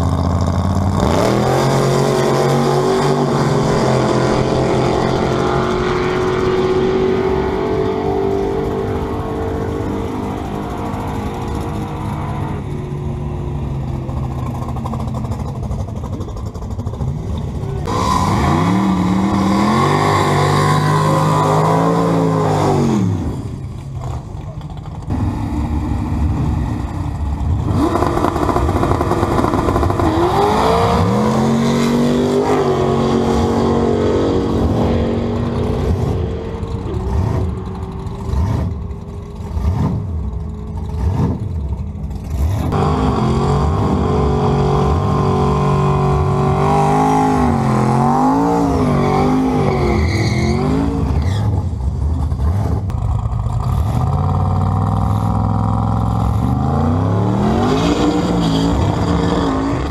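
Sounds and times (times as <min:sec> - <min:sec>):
drag car engine revving: 0:00.0 - 0:59.9.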